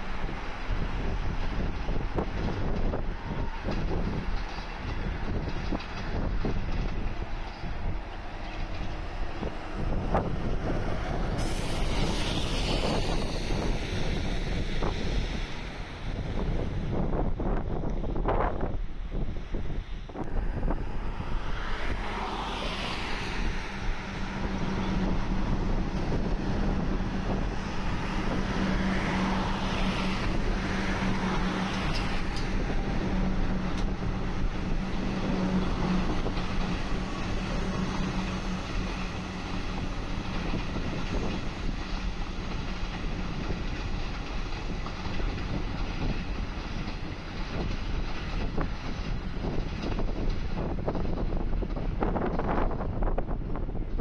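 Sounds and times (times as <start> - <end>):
electric train whine: 0.0 - 54.0
steady train hum: 0.0 - 54.0.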